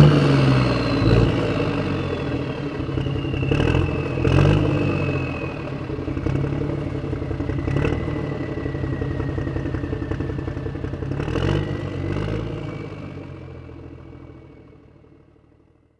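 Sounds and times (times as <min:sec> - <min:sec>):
vehicle engine running: 0:00.0 - 0:15.9
faint high whine: 0:00.5 - 0:15.1.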